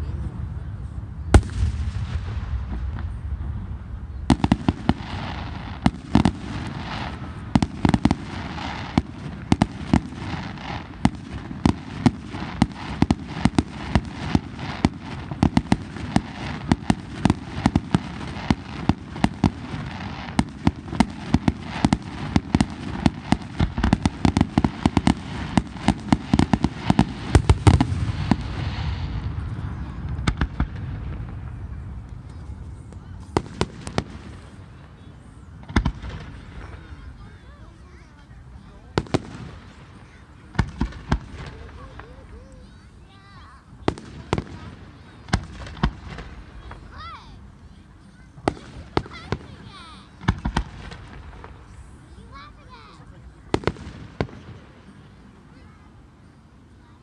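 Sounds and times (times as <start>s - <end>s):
fireworks bangs: 0.0s - 55.8s
fireworks crackling: 0.0s - 57.0s.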